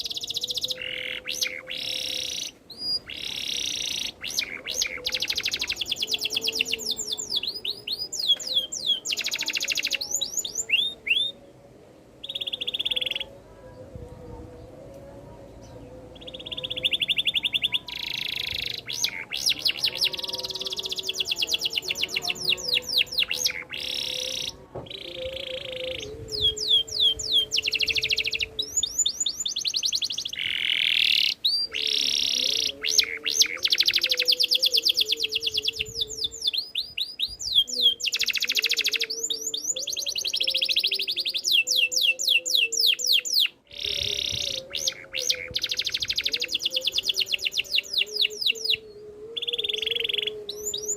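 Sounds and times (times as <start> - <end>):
canary singing trills: 0.0 - 11.6, 12.2 - 13.5, 15.5 - 50.9.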